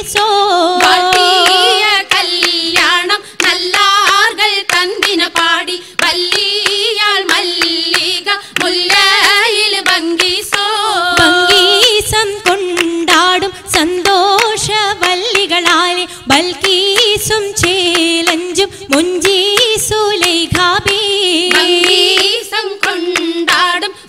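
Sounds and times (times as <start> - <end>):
rhythmic hand claps: 0.0 - 23.9.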